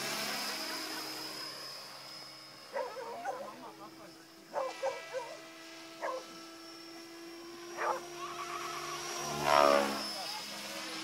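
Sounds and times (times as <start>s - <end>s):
model helicopter hum: 0.0s - 11.0s.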